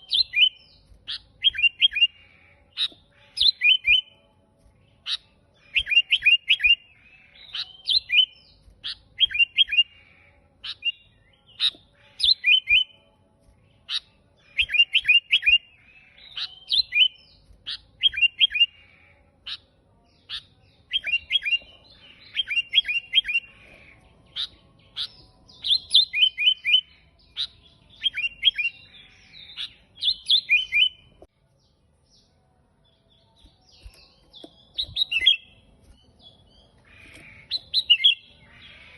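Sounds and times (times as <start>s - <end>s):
bulbul singing whistled notes: 0.0s - 2.2s, 2.8s - 4.2s, 5.0s - 10.0s, 10.6s - 13.0s, 13.6s - 18.8s, 20.2s - 31.3s, 33.1s - 38.9s.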